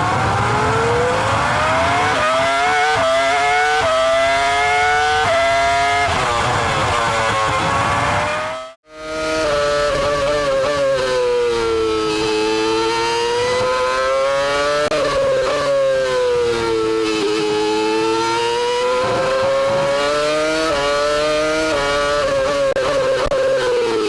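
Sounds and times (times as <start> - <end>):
gear changes: 0.0 - 24.0
racing car engine revving: 0.0 - 24.0.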